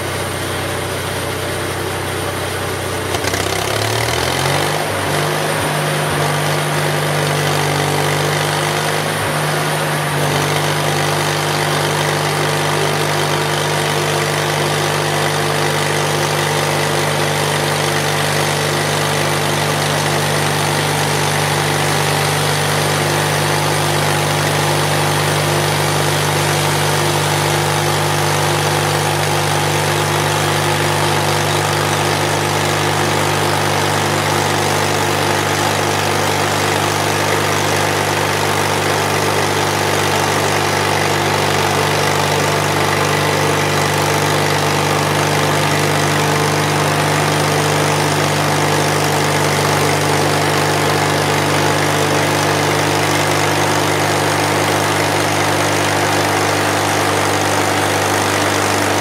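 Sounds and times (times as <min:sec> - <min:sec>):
bandsaw mill sawing wood: 0:00.0 - 0:59.0.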